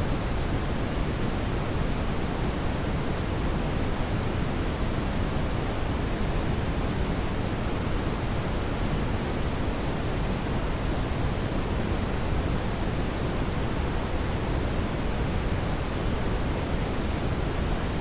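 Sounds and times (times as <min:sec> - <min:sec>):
steady brown noise hiss: 0:00.0 - 0:18.0.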